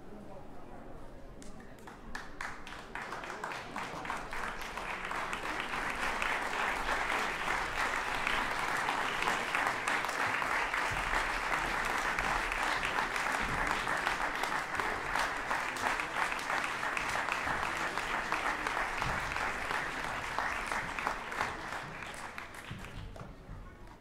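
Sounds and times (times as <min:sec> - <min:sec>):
audience applauding: 0:01.8 - 0:23.5.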